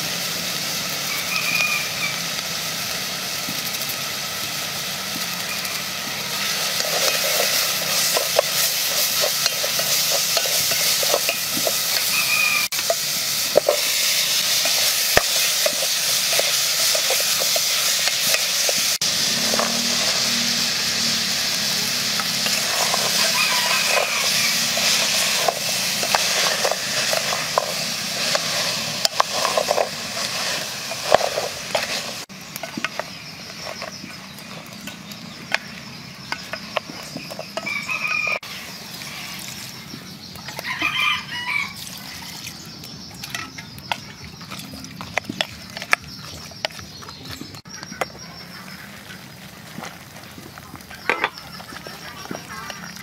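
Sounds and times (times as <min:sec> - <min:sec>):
vegetables sizzling in a pot: 0:00.0 - 0:53.0.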